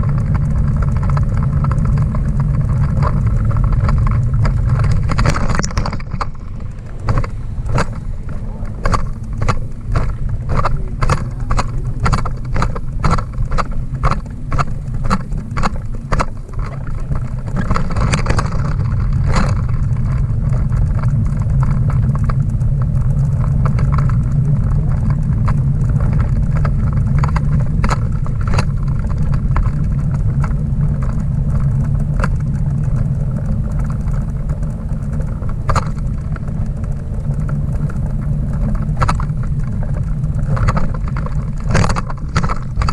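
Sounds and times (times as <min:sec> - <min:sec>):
rattling clicks from bumps: 0:00.0 - 0:42.9
trailer wheels rumbling: 0:00.0 - 0:42.9.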